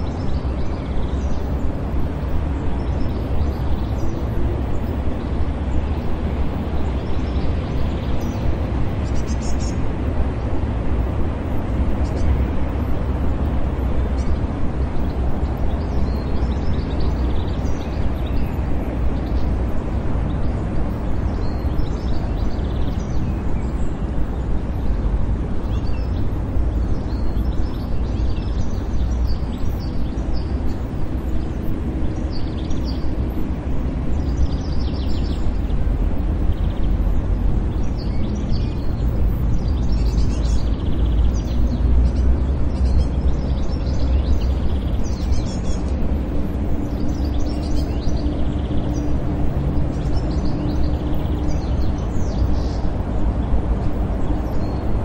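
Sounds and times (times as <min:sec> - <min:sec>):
distant traffic rumble: 0:00.0 - 0:55.0
small birds chirping: 0:00.0 - 0:55.0.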